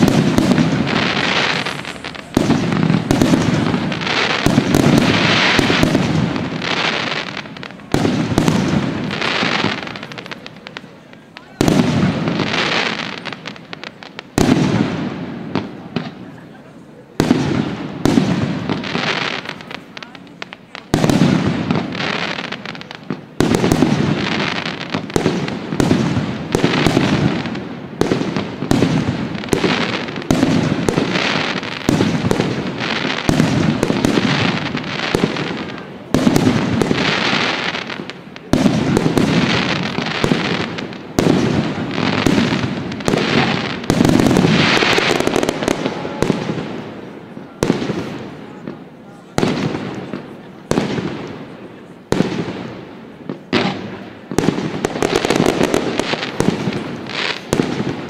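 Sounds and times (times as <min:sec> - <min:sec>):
firework hiss: 0:00.0 - 0:58.0.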